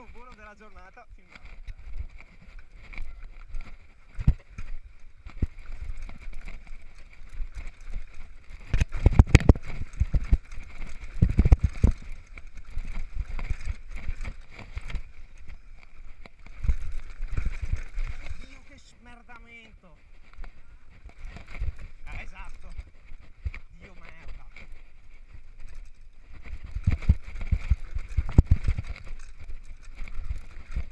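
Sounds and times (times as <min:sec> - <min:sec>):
mountain bike rattling on dirt trail: 0:00.0 - 0:30.9.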